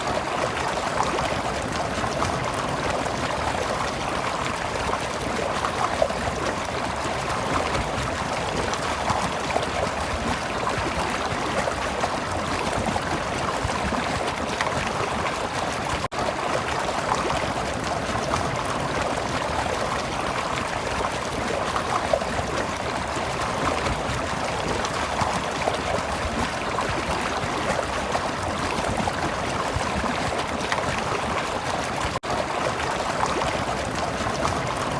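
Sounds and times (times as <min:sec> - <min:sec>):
stream flowing and gurgling: 0:00.0 - 0:34.9.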